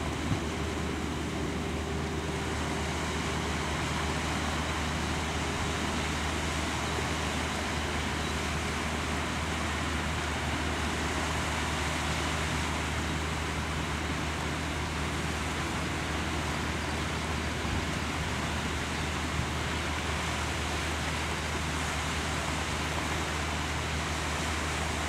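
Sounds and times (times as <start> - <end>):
background traffic noise: 0.0 - 25.0.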